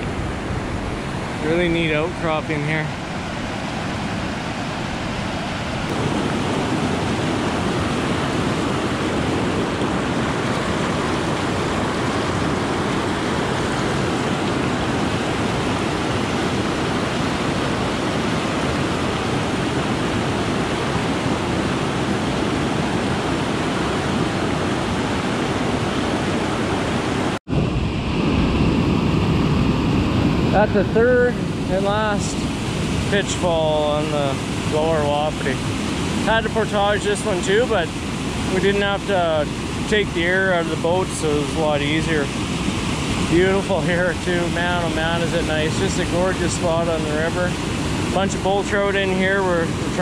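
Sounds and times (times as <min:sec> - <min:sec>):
whitewater rushing over rocks: 0:00.0 - 0:27.7, 0:30.5 - 0:50.0.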